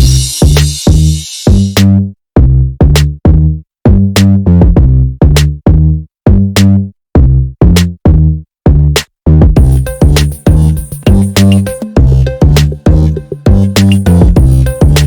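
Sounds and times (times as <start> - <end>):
drum machine beat: 0.0 - 6.6, 7.2 - 15.0.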